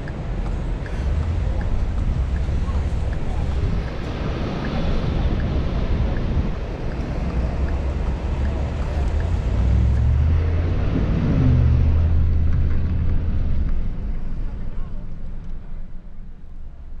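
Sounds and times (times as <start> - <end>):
road noise rumble: 0.0 - 17.0
wind buffeting microphone: 0.0 - 17.0
engine note rising: 1.0 - 15.2.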